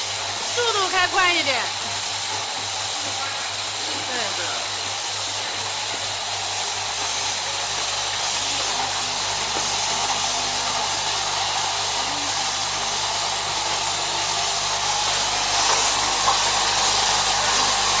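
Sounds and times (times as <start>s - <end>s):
machine whirring and hissing: 0.0s - 18.0s.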